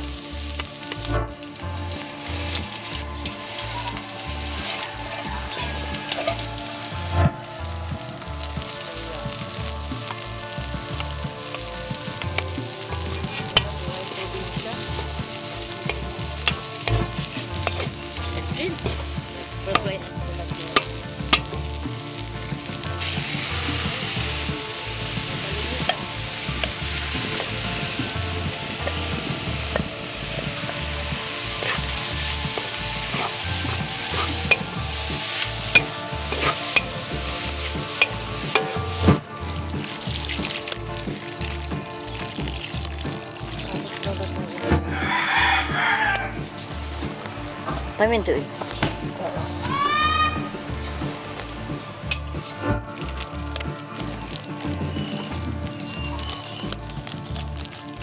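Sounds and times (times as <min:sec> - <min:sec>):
food sizzling in a wok: 0:00.0 - 0:58.0
water poured into hot wok: 0:00.0 - 0:58.0.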